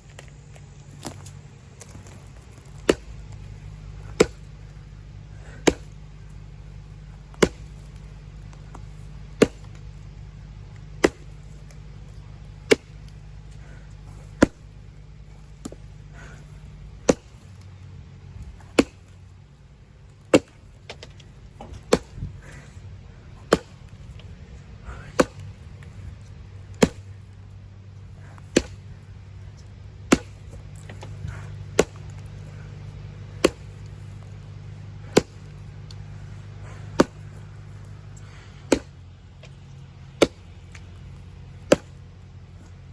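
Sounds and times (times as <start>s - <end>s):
steady low hum: 0.0s - 42.9s
axe chopping wood: 1.0s - 17.7s, 18.4s - 19.2s, 20.2s - 22.6s, 23.4s - 24.3s, 24.9s - 26.0s, 26.7s - 27.3s, 28.2s - 29.0s, 29.6s - 34.4s, 35.0s - 42.1s.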